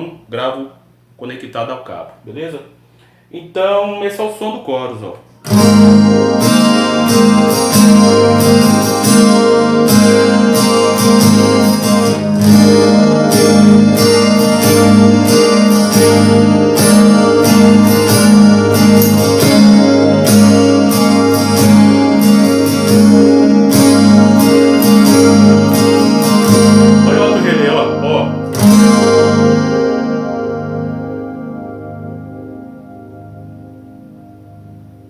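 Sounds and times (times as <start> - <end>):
strummed guitar chords with chorus: 5.4 - 35.0.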